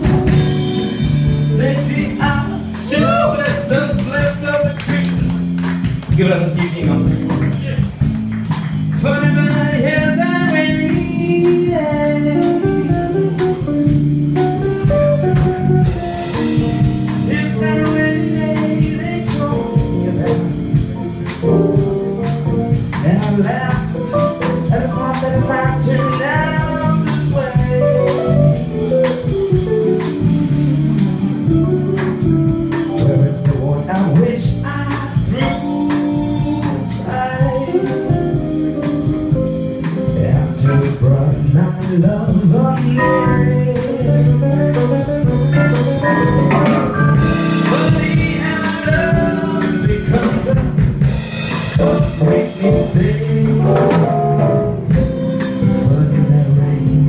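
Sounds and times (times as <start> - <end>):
bass: 0.0 - 57.0
drum kit cymbals: 0.0 - 57.0
electric guitar: 0.0 - 57.0
keyboard: 0.0 - 57.0
man singing: 1.4 - 5.5, 6.1 - 7.9, 8.9 - 13.7, 17.1 - 21.6, 22.7 - 29.3, 32.0 - 54.3, 55.4 - 57.0.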